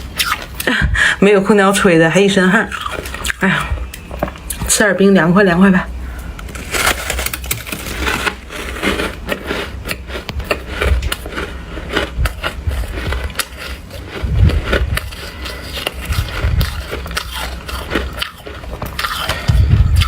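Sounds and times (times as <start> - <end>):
chewing crunchy ice: 0.0 - 0.6, 2.6 - 4.6, 6.5 - 20.0.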